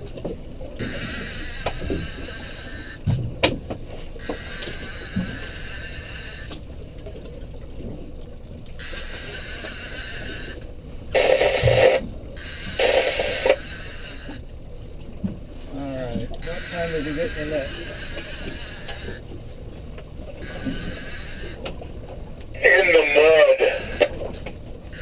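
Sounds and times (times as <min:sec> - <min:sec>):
boat motor running: 0:00.0 - 0:25.0
water noise: 0:00.0 - 0:25.0.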